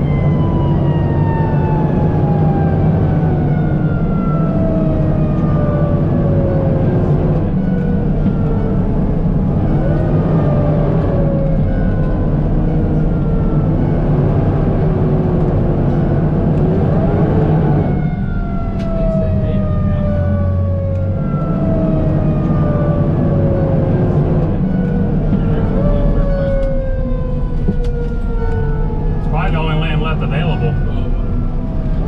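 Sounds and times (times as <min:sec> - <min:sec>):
fire engine running: 0:00.0 - 0:32.0
siren wailing: 0:00.0 - 0:32.0.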